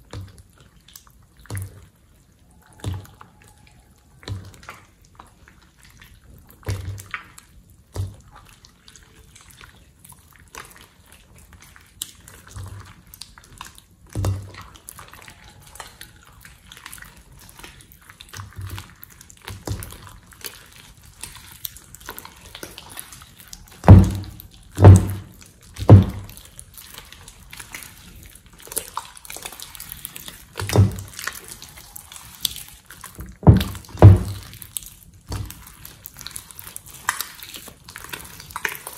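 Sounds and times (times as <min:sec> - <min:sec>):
slime squelching: 0:00.0 - 0:38.9.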